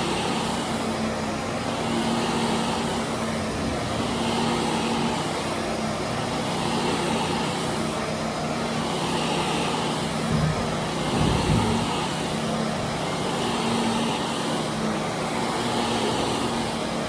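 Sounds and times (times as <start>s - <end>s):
carpet cleaning machine motor hum: 0.0s - 17.0s
hiss: 0.0s - 17.0s.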